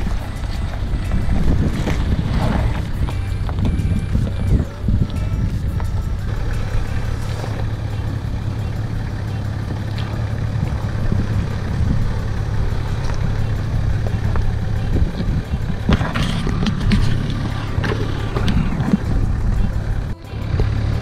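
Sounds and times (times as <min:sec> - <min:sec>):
four-wheel drive engine idling low: 0:00.0 - 0:21.0.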